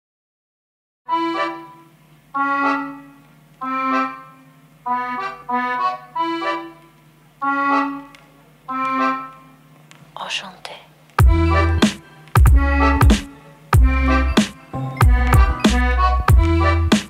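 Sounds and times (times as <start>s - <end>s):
slow single-note melody: 1.1s - 9.8s, 11.2s - 17.0s.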